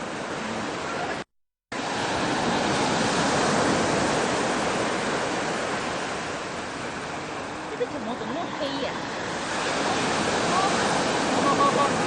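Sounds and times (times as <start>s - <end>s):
sea surf breaking on shore: 0.0s - 12.0s.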